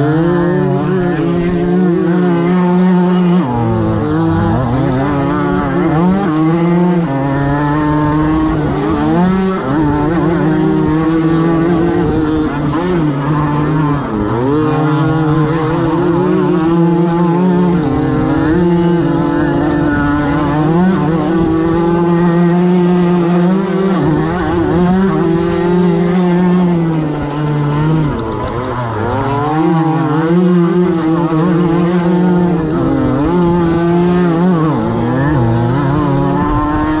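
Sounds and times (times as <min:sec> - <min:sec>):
two-stroke moped engine revving: 0:00.0 - 0:37.0.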